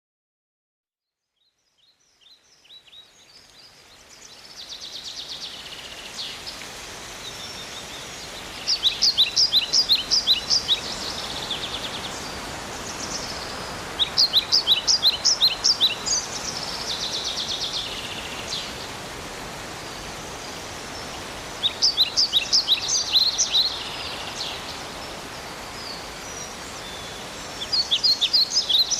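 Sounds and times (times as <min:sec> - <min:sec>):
background hiss of woods: 0:01.2 - 0:28.9
songbird singing: 0:01.4 - 0:19.0, 0:19.6 - 0:28.9.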